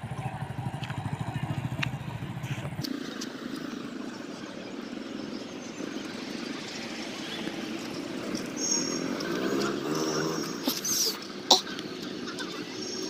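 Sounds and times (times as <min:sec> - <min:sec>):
distant motorcycle engine: 0:00.0 - 0:13.0.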